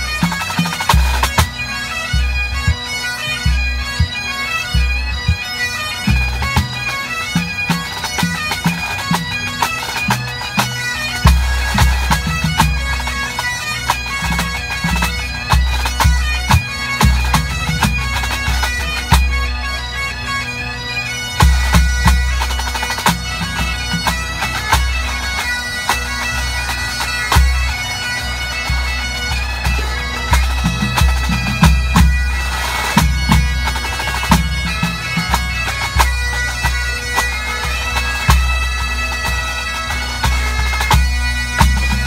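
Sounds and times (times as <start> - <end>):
bagpipes playing: 0.0 - 42.0.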